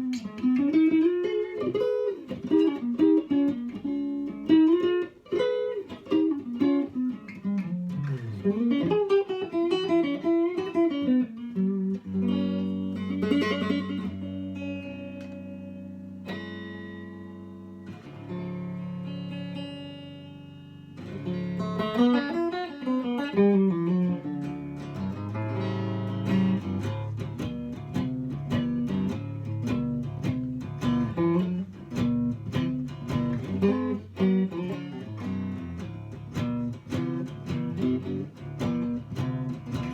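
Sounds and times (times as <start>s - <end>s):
archtop guitar playing: 0.0s - 39.9s.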